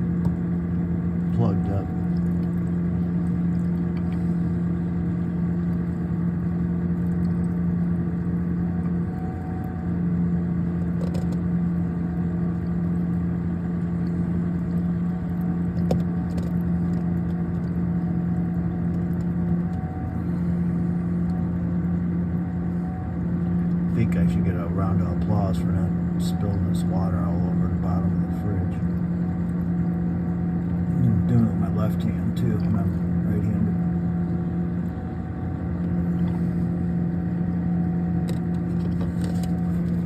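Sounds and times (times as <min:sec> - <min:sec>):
refrigerator compressor humming: 0:00.0 - 0:40.0.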